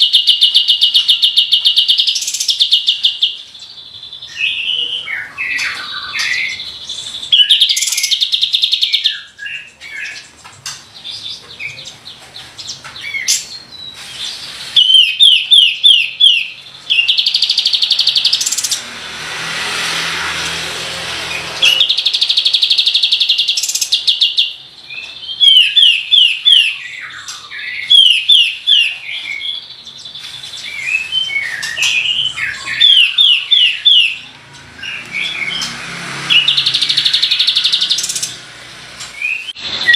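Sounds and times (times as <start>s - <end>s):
songbird singing: 0.0s - 19.0s, 20.3s - 39.9s.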